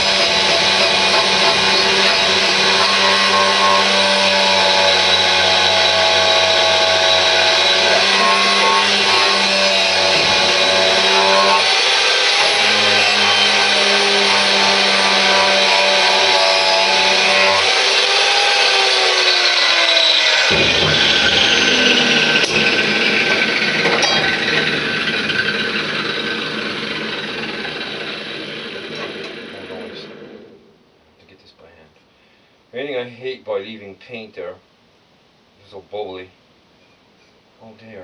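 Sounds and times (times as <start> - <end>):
power tool motor whine: 0.0 - 30.5.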